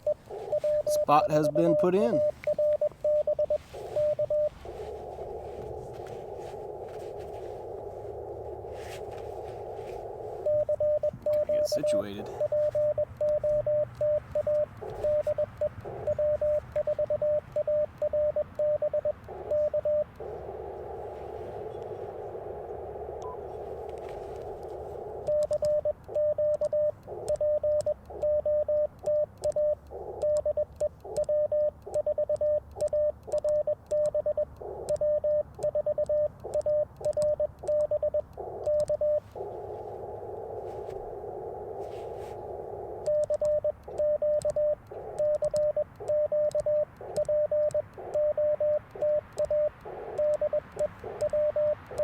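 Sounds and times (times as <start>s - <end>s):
morse code tone: 0.0s - 52.0s
radio receiver hiss: 0.0s - 52.0s.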